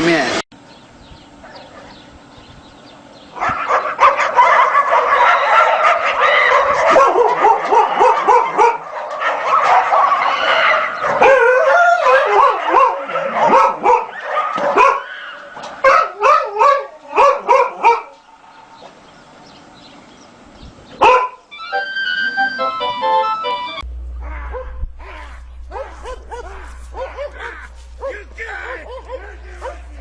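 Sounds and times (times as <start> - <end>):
dogs barking and yelping: 1.4 - 2.1, 3.3 - 19.0, 21.0 - 30.0.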